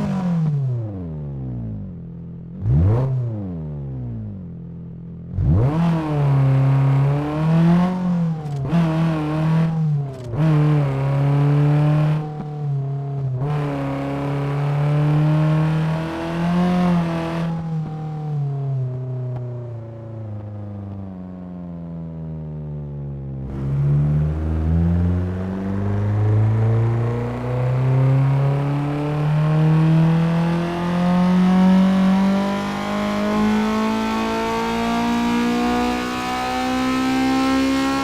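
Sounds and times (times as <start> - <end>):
car engine revving: 2.5 - 3.6, 5.3 - 20.4, 23.4 - 38.0.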